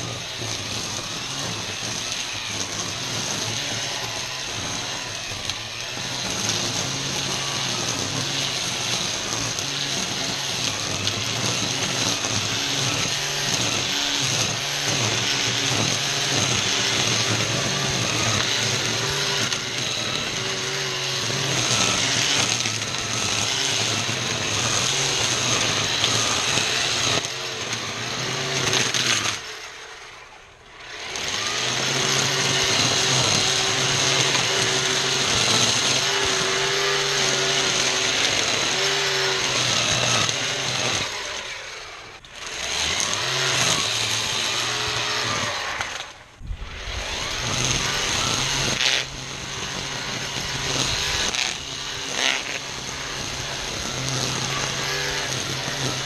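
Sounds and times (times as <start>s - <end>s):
string trimmer cutting weeds: 0.0s - 56.0s.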